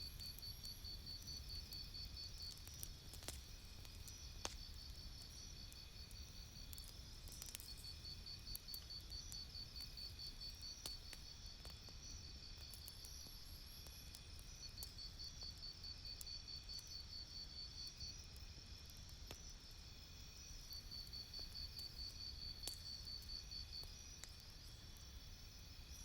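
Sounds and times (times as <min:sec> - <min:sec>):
campfire crackling and popping: 0:00.1 - 0:26.0.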